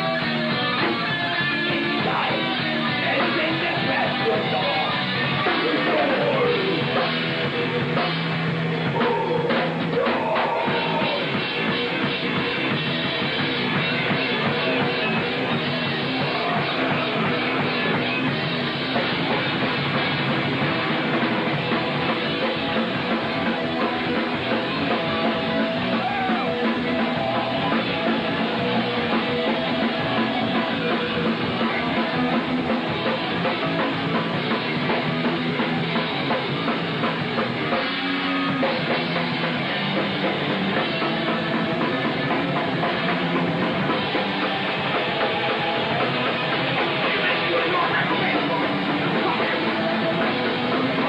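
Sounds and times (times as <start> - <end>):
thrash metal band playing live: 0.0 - 51.0.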